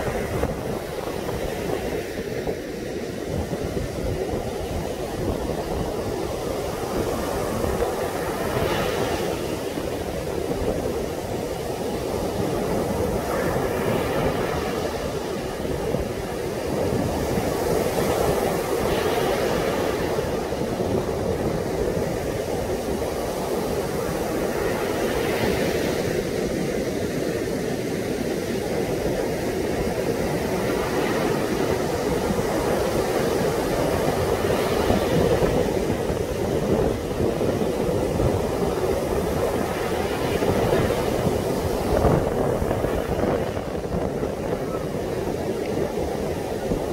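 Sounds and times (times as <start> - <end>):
surf breaking on a beach: 0.0 - 46.9
wind buffeting the microphone: 0.0 - 46.9.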